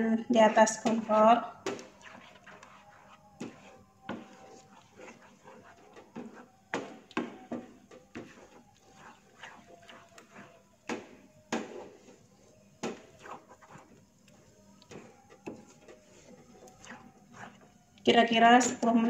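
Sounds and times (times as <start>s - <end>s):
wooden spatula scraping pan: 0.3s - 18.9s.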